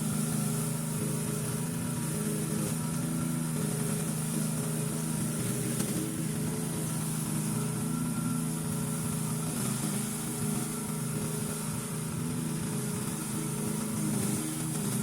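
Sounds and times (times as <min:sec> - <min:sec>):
weed cutter running: 0:00.0 - 0:15.0.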